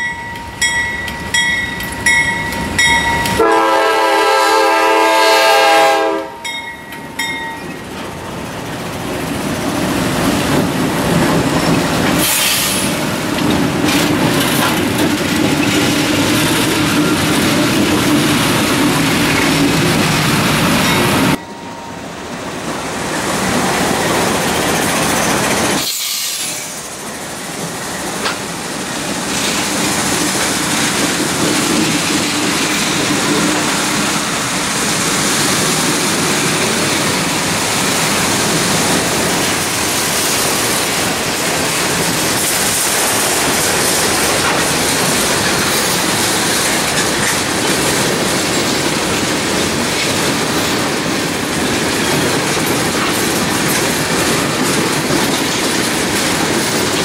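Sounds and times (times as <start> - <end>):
diesel locomotives passing: 0.0 - 57.0
wheels clacking over rail joints: 6.5 - 21.4, 23.1 - 57.0.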